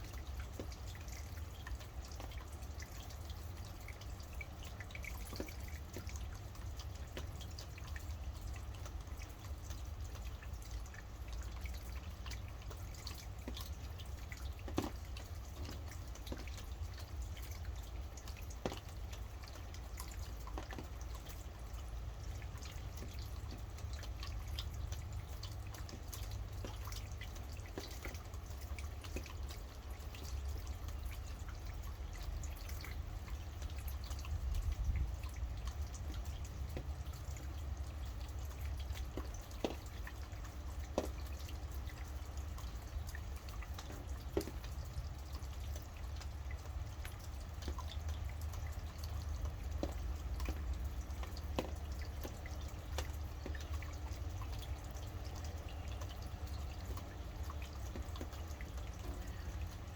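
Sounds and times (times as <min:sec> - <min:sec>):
raindrops pattering: 0:00.0 - 0:59.9.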